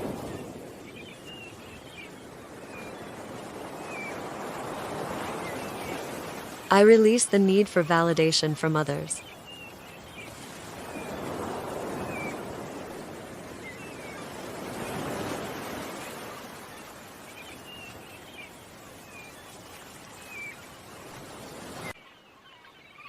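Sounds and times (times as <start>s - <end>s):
ocean waves washing ashore: 0.0s - 22.0s
small birds chirping: 0.1s - 4.6s, 5.2s - 15.1s, 16.0s - 23.0s.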